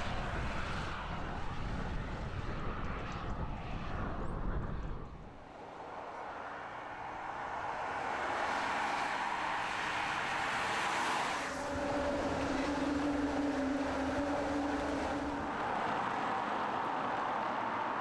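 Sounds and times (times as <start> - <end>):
car engine drone: 0.0 - 18.0
tyre and road noise: 0.0 - 18.0.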